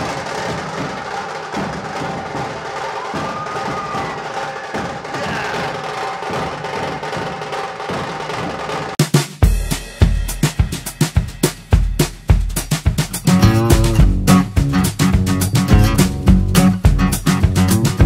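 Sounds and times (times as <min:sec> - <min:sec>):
rapid drumming: 0:00.0 - 0:18.0.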